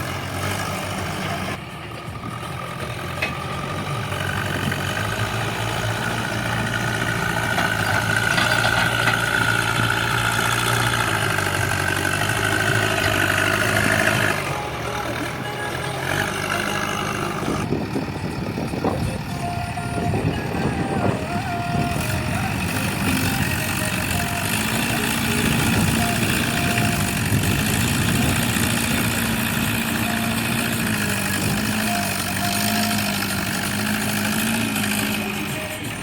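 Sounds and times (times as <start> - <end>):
heavy diesel machinery running: 0.0 - 36.0.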